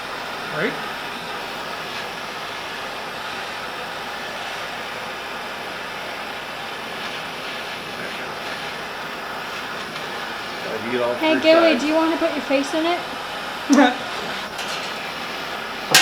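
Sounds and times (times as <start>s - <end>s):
cutting torch hissing: 0.0s - 16.0s.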